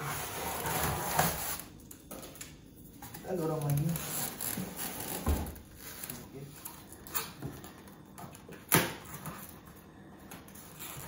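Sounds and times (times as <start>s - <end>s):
faint low fridge hum: 0.0s - 11.0s.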